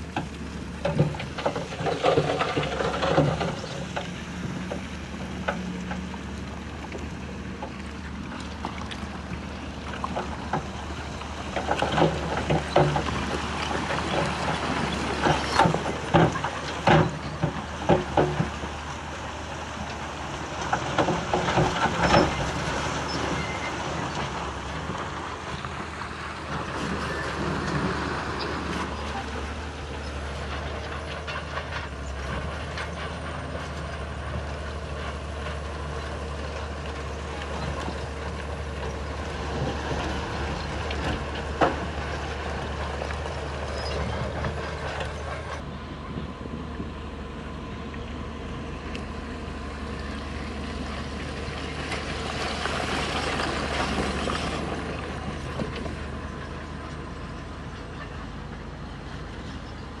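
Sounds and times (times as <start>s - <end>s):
heavy diesel machinery running: 0.0s - 60.0s.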